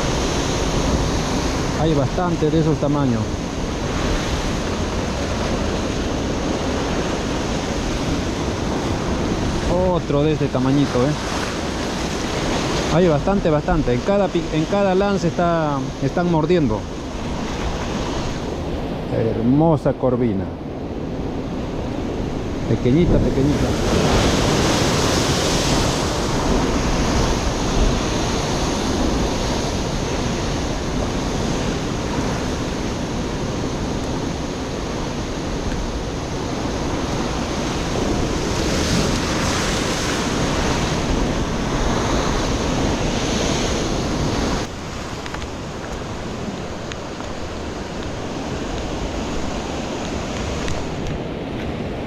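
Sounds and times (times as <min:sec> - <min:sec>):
surf breaking on rocks: 0:00.0 - 0:19.0, 0:21.4 - 0:52.0
wind on microphone: 0:00.0 - 0:19.1, 0:20.6 - 0:52.0.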